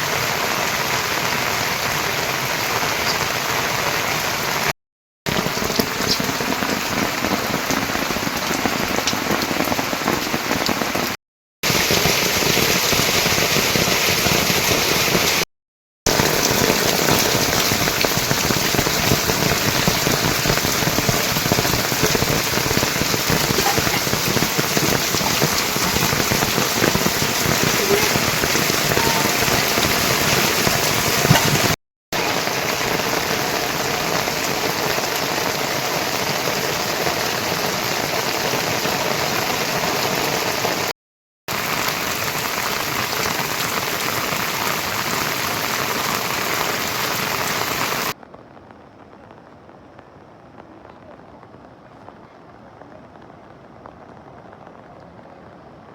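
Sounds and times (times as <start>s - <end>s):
heavy rain pattering: 0.0s - 4.7s, 5.3s - 15.5s, 16.1s - 40.9s, 41.5s - 55.9s.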